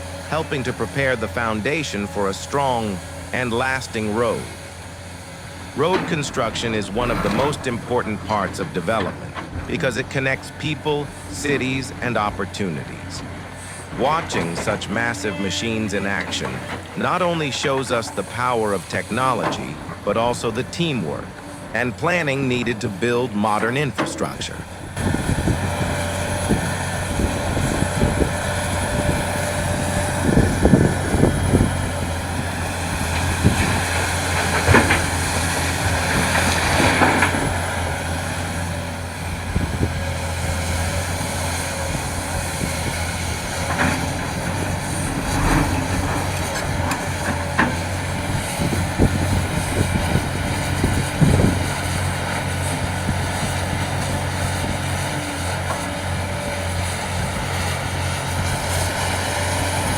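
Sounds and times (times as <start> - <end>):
diesel engine drone: 0.0 - 59.9
machinery knocks and clanks: 0.1 - 56.1.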